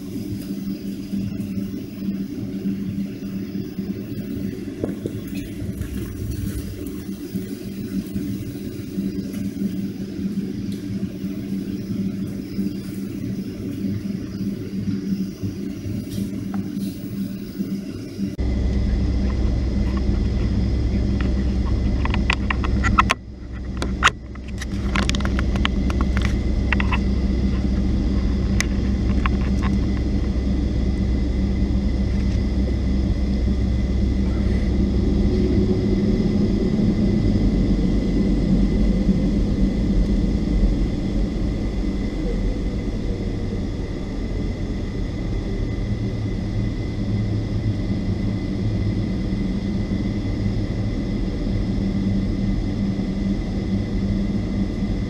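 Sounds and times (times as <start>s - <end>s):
faint high whine: 0.0s - 55.0s
jet engines idling rumble: 0.0s - 55.0s
steady hum: 0.0s - 55.0s.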